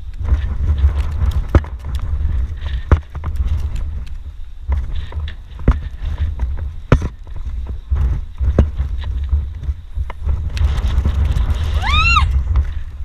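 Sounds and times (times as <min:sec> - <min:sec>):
wind buffeting microphone: 0:00.0 - 0:13.0
sharp clicks and knocks: 0:00.1 - 0:11.6.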